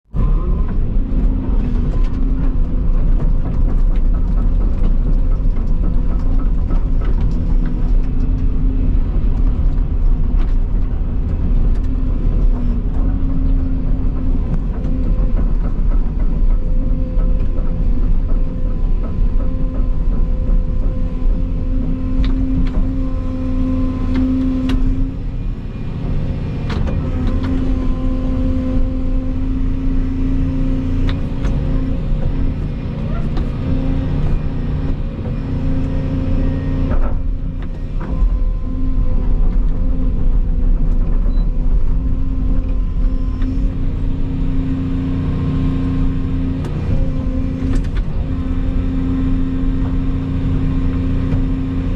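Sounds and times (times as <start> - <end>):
excavator engine rumble: 0.0 - 51.9
hydraulic whine: 0.1 - 51.9.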